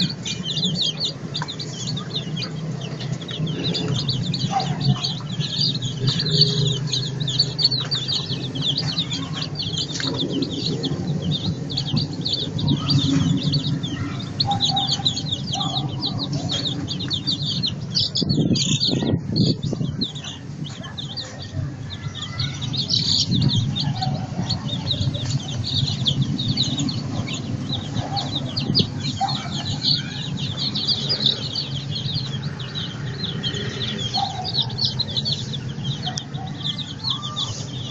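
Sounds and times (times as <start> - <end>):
chicks peeping: 0.0 - 37.9
steady low hum: 0.0 - 37.9.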